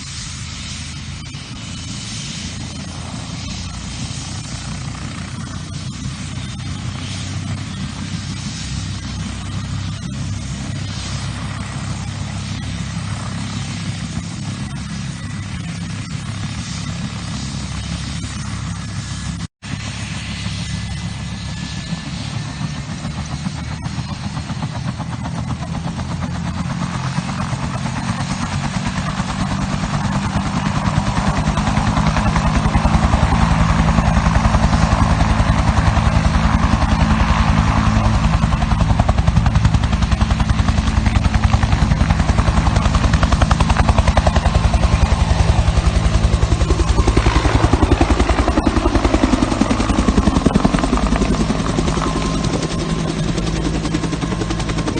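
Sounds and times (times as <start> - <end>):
helicopter rotor chopping: 0.0 - 54.9
turbine drone: 0.0 - 54.9.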